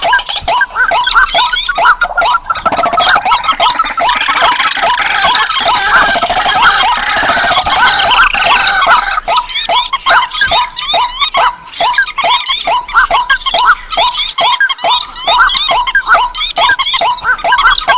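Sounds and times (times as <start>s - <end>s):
marsh bird calls: 0.0s - 17.9s
rapidly repeating bird call: 0.0s - 17.9s.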